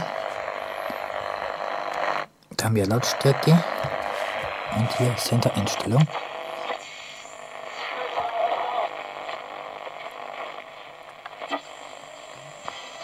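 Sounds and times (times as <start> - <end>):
radio hiss and static: 0.0 - 13.0.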